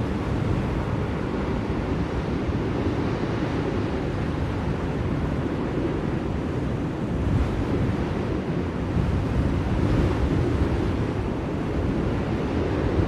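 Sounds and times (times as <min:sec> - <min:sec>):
blizzard wind blowing: 0:00.0 - 0:13.0.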